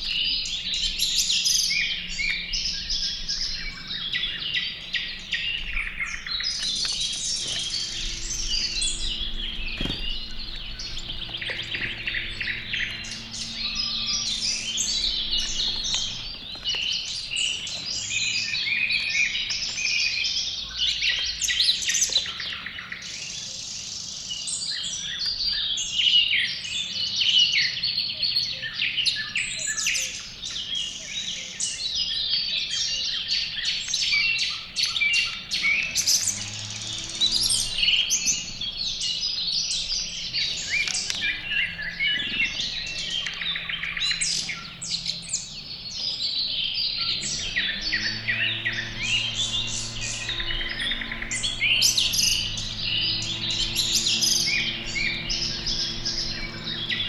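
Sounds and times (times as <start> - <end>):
songbirds chirping and singing: 0.0 - 57.0.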